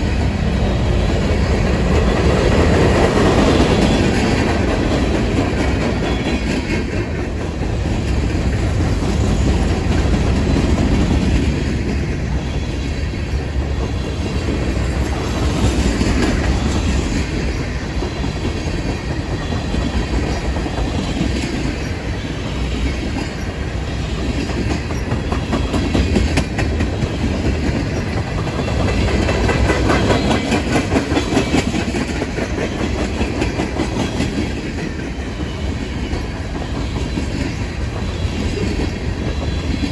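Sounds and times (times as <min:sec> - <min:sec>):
train cars rumbling: 0:00.0 - 0:39.9
train wheels clicking over rail joints: 0:00.0 - 0:39.9.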